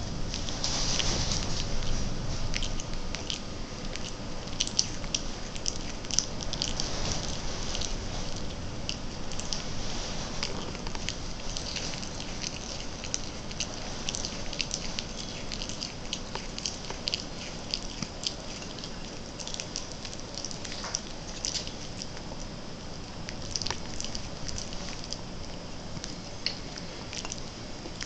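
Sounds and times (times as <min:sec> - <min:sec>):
sloths chewing vegetables: 0:00.0 - 0:28.0.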